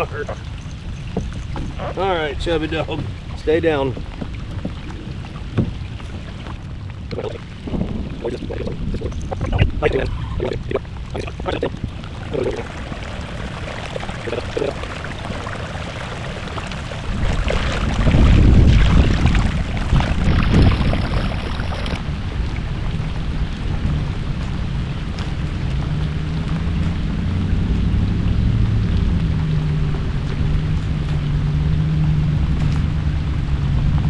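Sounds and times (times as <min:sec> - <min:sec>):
rain and wind hiss: 0:00.0 - 0:34.0
thunder rumble: 0:01.4 - 0:34.0.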